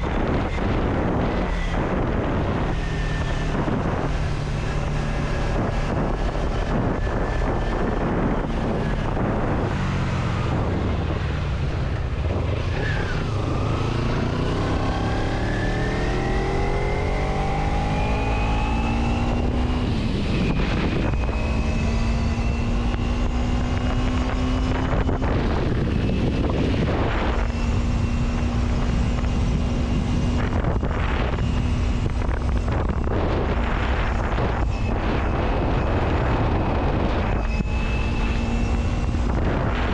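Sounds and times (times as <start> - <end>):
vehicle engine accelerating: 0.0 - 39.9
wind noise: 0.0 - 39.9.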